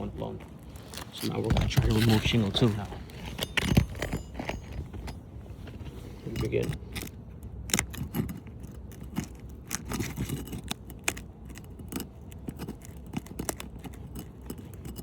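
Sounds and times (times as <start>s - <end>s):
metal bar scraping shingles: 0.7s - 15.0s.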